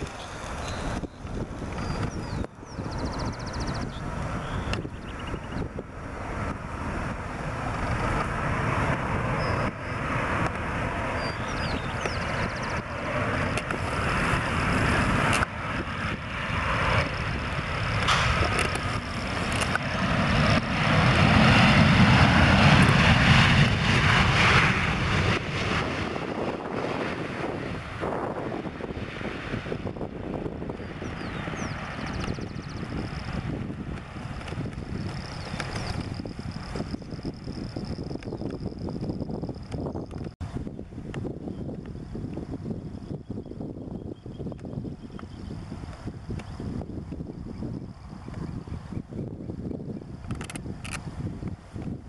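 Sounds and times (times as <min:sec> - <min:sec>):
jet engines rumbling: 0:00.0 - 0:52.0.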